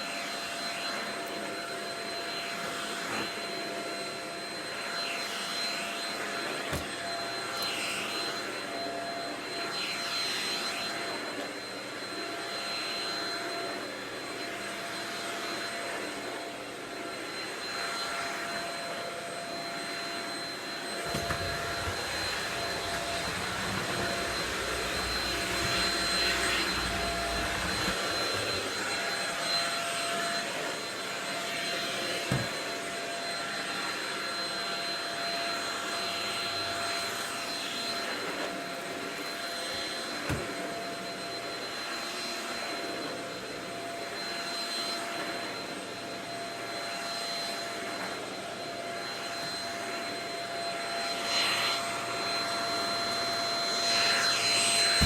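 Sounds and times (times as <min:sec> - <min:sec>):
stick vacuum whining: 0:00.0 - 0:55.0.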